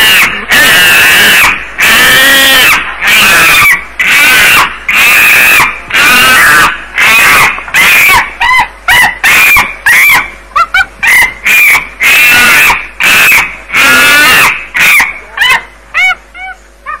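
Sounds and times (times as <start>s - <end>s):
chimpanzee screeches and hoots: 0.0s - 17.0s.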